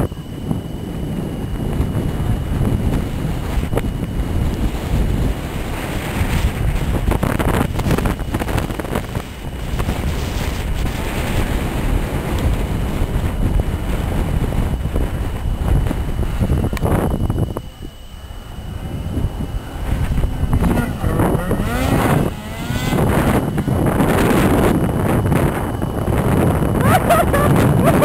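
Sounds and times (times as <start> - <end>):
distant snowmobile engines: 0.0 - 28.0
wind buffeting microphone: 0.0 - 28.0.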